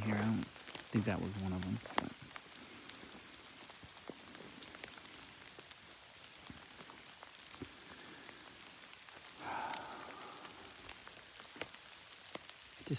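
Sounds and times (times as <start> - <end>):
light rain pattering: 0.0 - 12.9
raindrops ticking: 0.0 - 12.9.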